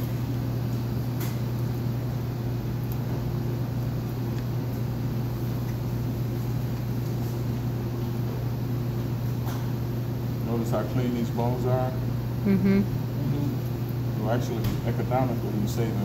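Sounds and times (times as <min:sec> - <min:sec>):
kitchen machinery humming: 0:00.0 - 0:16.0.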